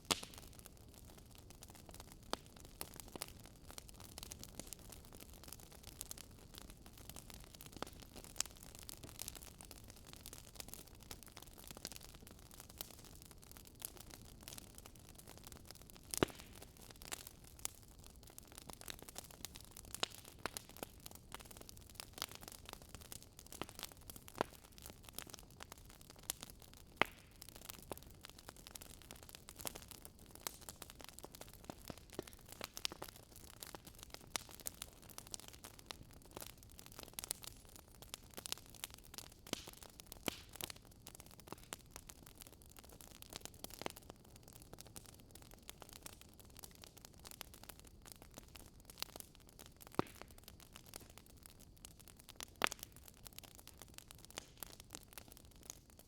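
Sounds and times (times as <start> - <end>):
fireplace crackling: 0.0 - 44.0, 45.0 - 55.8.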